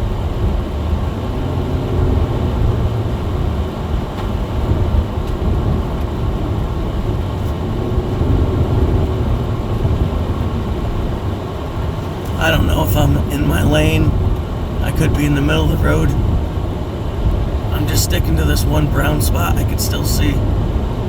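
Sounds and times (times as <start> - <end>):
car engine and tyre rumble: 0.0 - 21.0
faint engine hum: 0.0 - 21.0.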